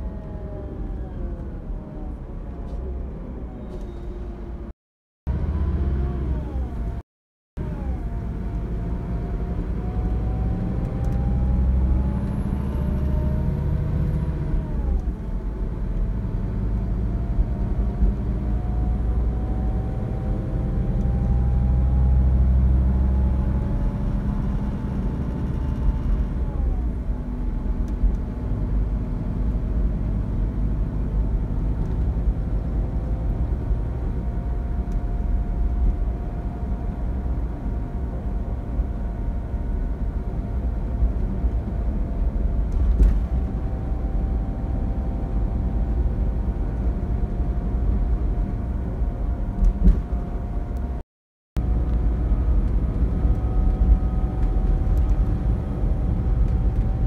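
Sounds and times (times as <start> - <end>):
bus diesel engine accelerating: 0.0 - 7.0, 7.6 - 51.0, 51.6 - 57.0.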